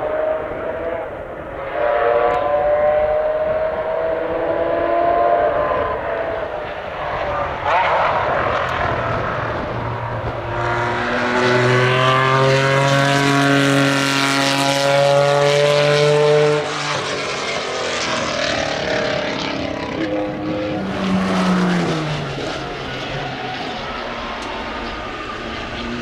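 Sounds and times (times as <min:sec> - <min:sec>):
racing car passing by: 0:00.0 - 0:26.0.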